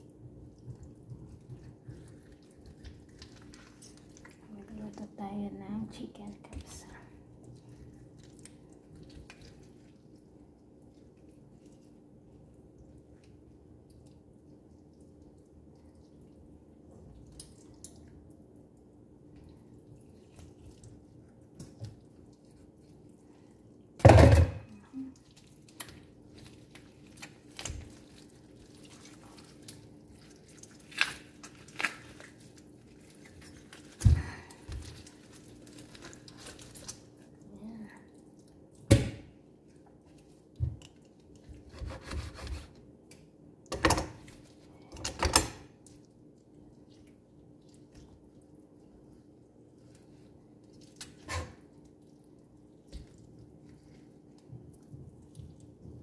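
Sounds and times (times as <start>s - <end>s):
wet squelching of chicken skin: 0.5s - 4.6s, 7.2s - 24.0s, 25.0s - 38.9s, 45.8s - 55.9s.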